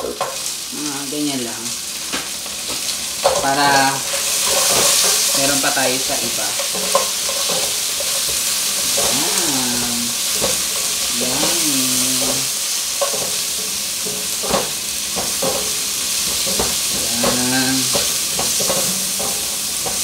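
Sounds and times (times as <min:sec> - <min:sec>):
food sizzling in pot: 0:00.0 - 0:20.0.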